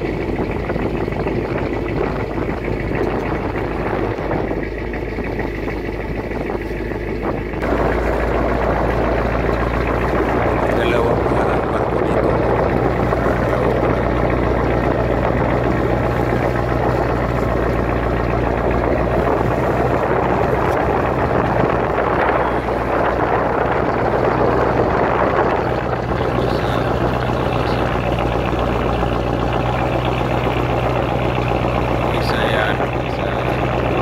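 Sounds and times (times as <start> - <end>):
boat engine humming: 0.0 - 34.0
steady rushing noise: 0.0 - 34.0.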